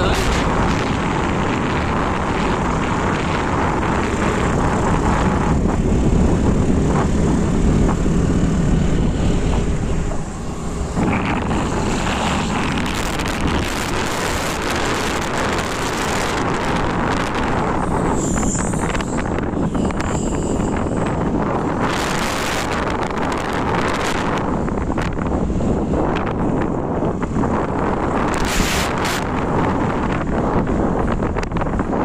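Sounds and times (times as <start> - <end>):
scooter road noise: 0.0 - 32.0
wind buffeting microphone: 0.0 - 32.0.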